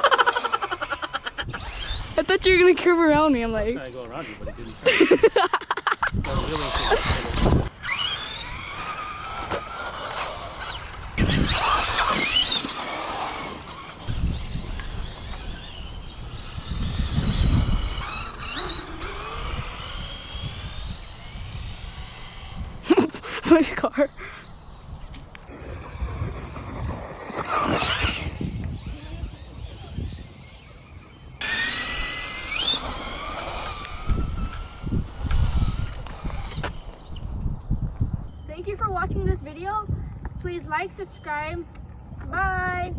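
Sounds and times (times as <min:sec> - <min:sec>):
rc car motors whining: 0:00.0 - 0:38.2.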